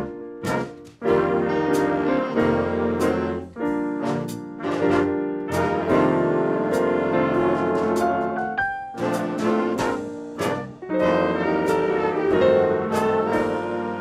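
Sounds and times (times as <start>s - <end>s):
brass band playing held chords: 0.0s - 14.0s.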